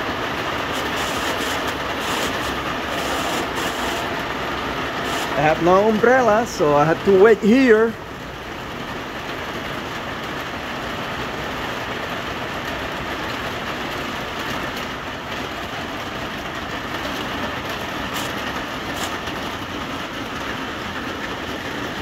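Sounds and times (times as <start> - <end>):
heavy rain on greenhouse glass: 0.0 - 22.0.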